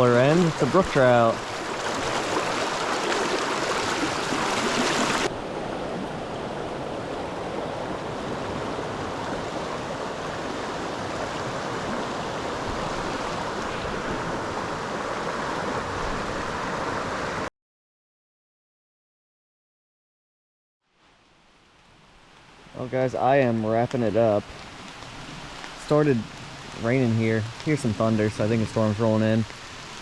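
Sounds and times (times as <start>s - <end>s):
stream water rushing: 0.0s - 17.5s, 22.0s - 30.0s.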